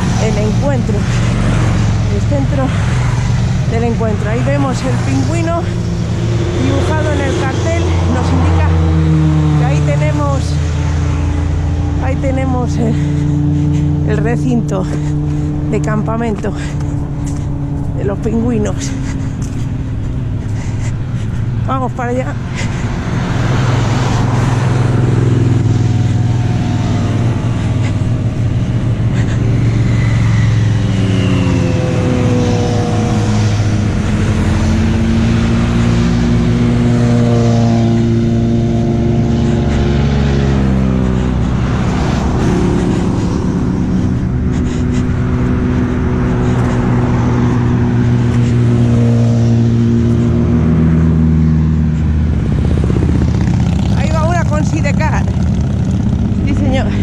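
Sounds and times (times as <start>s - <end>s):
low engine drone: 0.0s - 57.0s
motorcycles passing by: 0.0s - 57.0s.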